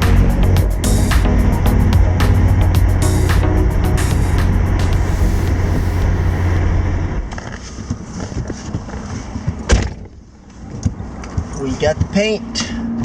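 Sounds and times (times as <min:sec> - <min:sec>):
car rumbling on road: 0:00.0 - 0:11.6.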